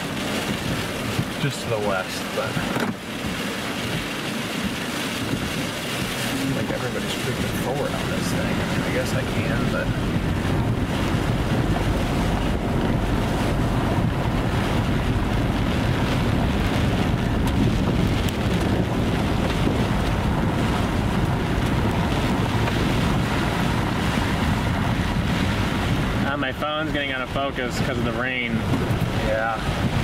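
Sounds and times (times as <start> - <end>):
heavy rain: 0.0 - 30.0
storm wind buffeting microphone: 0.0 - 30.0.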